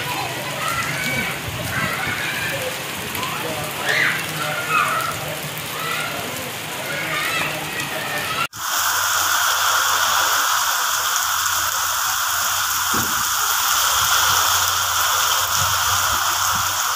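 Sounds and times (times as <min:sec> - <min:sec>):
heavy rain on paving: 0:00.0 - 0:16.9.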